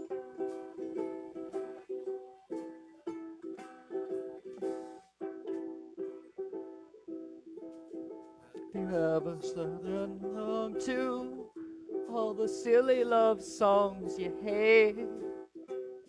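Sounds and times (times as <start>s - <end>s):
acoustic strings strumming chords: 0.0s - 16.0s.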